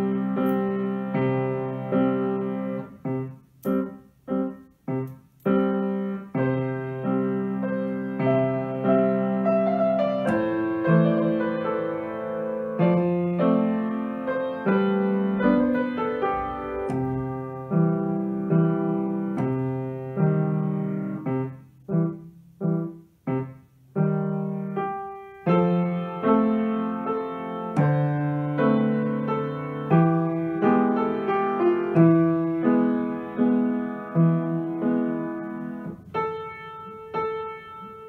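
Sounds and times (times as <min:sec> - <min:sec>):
grand piano playing: 0:00.0 - 0:38.0.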